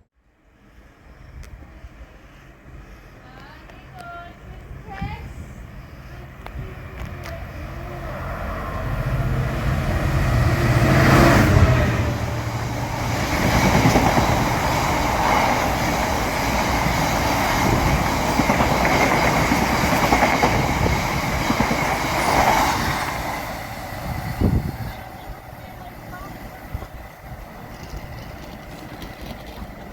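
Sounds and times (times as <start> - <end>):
diesel train engine: 0.3 - 29.9
train wheels on rails: 0.6 - 29.9.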